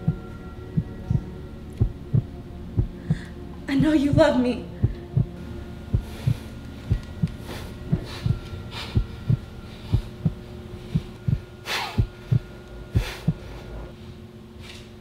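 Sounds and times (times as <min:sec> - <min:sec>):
heartbeat thumps: 0:00.0 - 0:13.6
steady low hum: 0:00.0 - 0:15.0.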